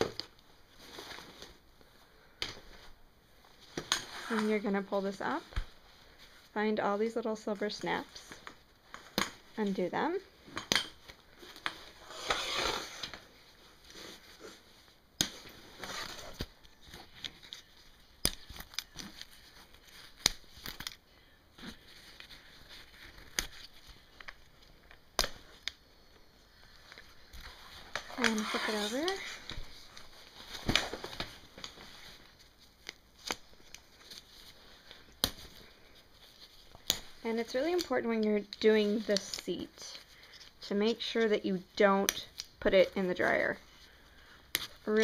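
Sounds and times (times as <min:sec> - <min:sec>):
fabric rustling: 0:00.0 - 0:20.9, 0:21.5 - 0:41.8.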